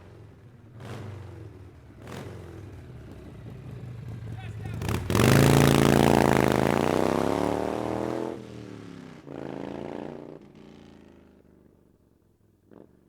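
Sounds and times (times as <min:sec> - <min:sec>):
motorcycle engine easing off: 0:00.0 - 0:11.9.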